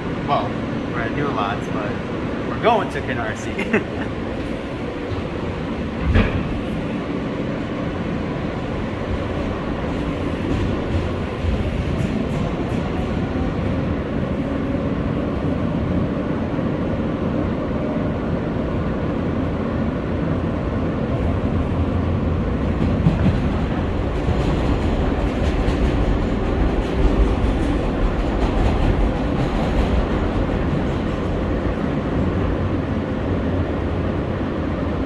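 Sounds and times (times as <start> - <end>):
subway train rumbling: 0.0 - 35.0.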